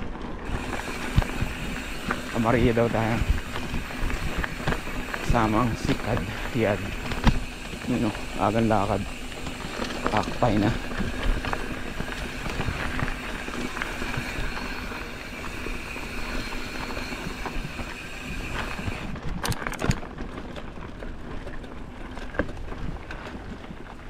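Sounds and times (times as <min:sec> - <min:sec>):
bicycle knocks and rattles: 0:00.0 - 0:24.0
bicycle riding noise: 0:00.0 - 0:24.0.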